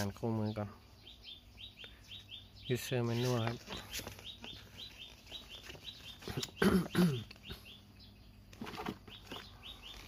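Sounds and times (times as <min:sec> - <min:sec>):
small bird chirping: 0:00.0 - 0:10.0
louder lower bird calls: 0:01.0 - 0:10.0.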